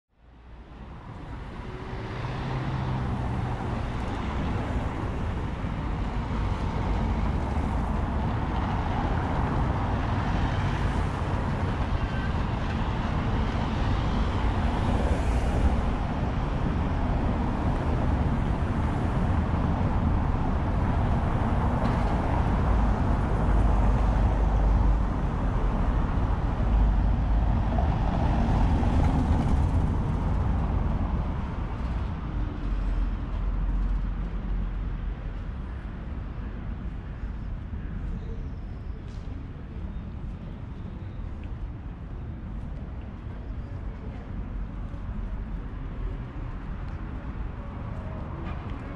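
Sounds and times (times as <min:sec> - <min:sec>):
city road traffic: 0:00.2 - 0:48.9.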